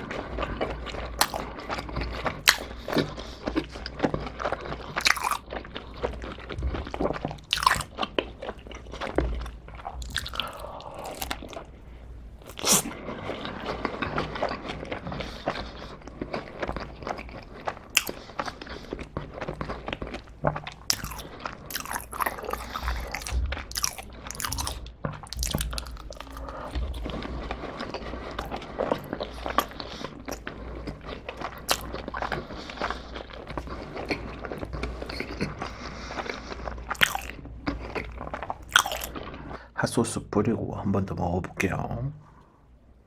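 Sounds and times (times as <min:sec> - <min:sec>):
chewing pizza crust: 0:00.0 - 0:39.7.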